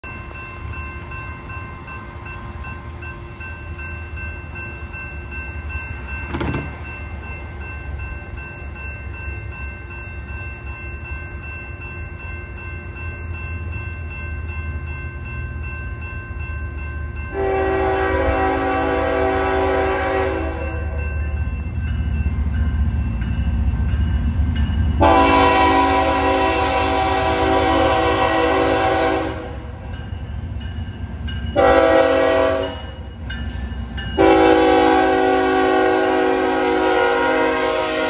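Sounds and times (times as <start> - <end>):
railroad crossing bell ringing: 0.0 - 38.0.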